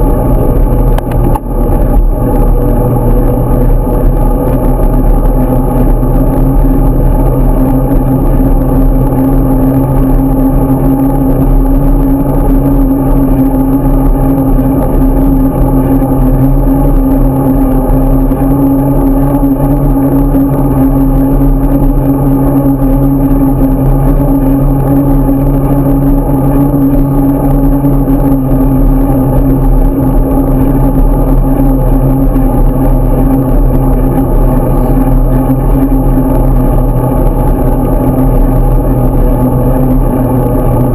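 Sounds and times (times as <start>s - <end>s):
vehicle engine running steadily: 0.0s - 40.9s.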